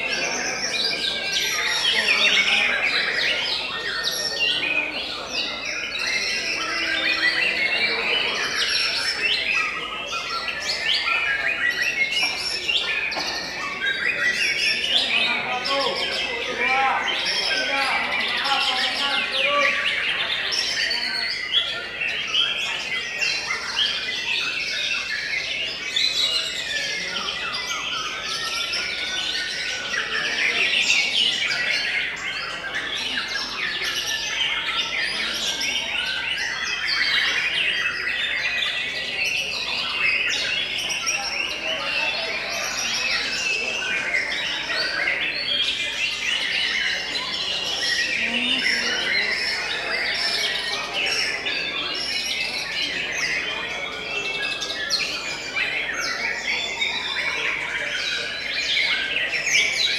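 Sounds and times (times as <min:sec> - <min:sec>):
birds whistling and trilling: 0:00.0 - 0:59.9.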